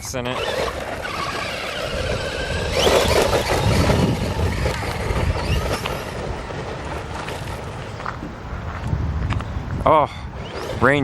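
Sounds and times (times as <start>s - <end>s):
electric motor whining: 0.0s - 8.2s, 10.3s - 11.0s
tyres rumbling on dirt road: 0.0s - 11.0s.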